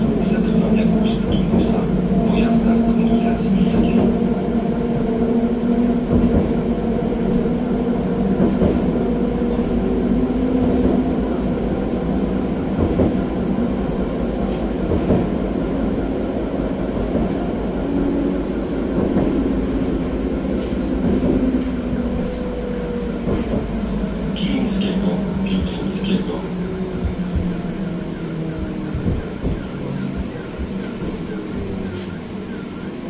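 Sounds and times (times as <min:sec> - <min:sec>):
tram drive tones: 0:00.0 - 0:33.0
tram wheels rumbling on track: 0:00.0 - 0:33.0.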